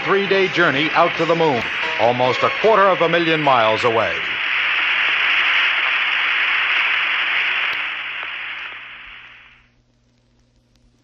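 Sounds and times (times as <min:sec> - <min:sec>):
hissy radio static: 0:00.0 - 0:09.8.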